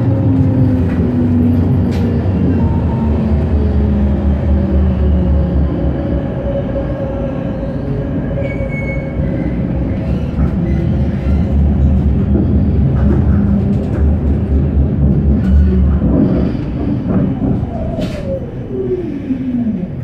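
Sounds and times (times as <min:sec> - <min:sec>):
tram wheels rumbling: 0:00.0 - 0:20.0.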